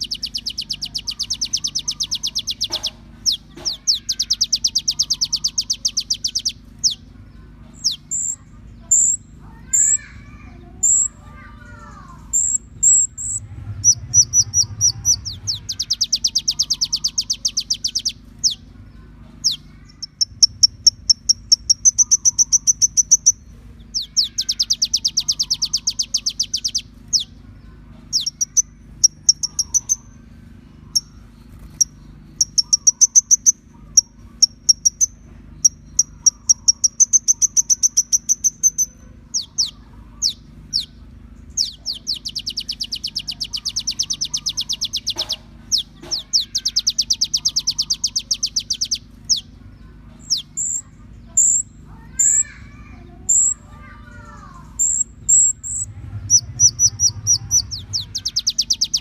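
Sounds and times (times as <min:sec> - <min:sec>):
bird singing fast high trills: 0:00.0 - 0:59.0
faint low hum: 0:00.0 - 0:59.0.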